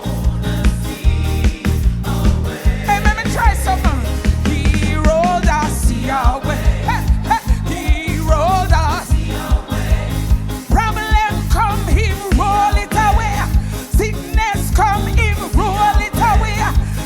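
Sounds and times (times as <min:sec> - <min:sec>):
choir singing a hymn: 0:00.0 - 0:17.0
live band with drums and bass: 0:00.0 - 0:17.0.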